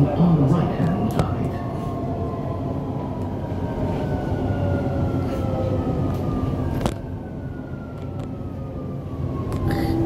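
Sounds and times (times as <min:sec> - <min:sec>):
train rumbling in a tunnel: 0:00.0 - 0:10.0.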